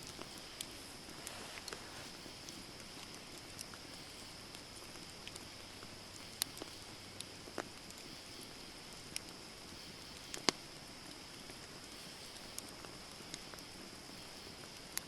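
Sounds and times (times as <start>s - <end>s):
campfire crackles and pops: 0.0s - 15.0s
fire hissing: 0.0s - 15.0s.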